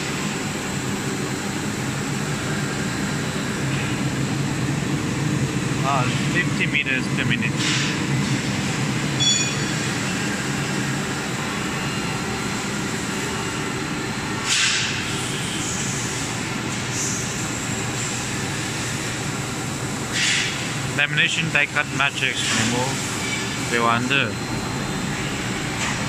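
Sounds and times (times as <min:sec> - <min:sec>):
printing machine drone: 0:00.0 - 0:26.0.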